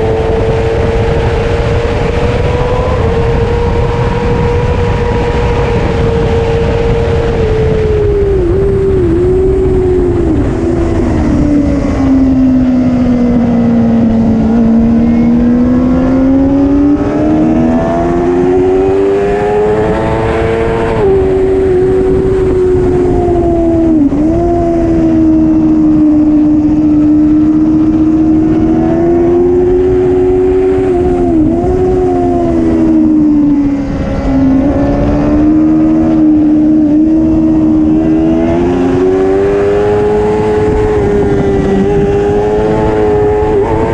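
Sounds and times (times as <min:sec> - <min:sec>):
racing motorcycle engine revving: 0:00.0 - 0:43.9.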